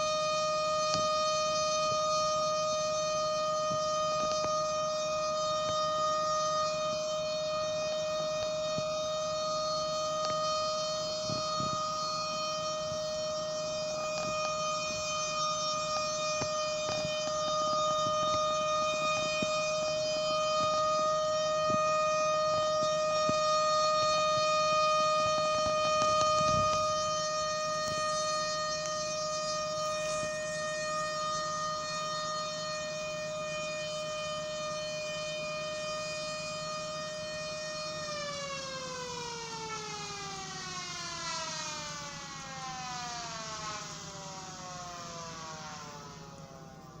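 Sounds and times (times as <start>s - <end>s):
air raid siren: 0.0s - 47.0s.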